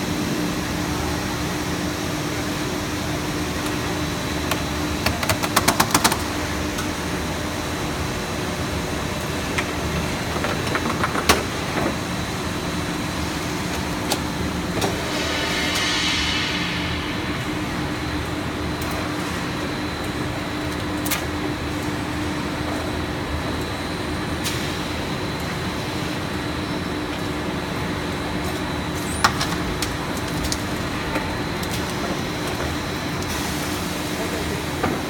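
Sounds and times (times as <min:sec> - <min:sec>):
machinery drone with whine: 0:00.0 - 0:35.0.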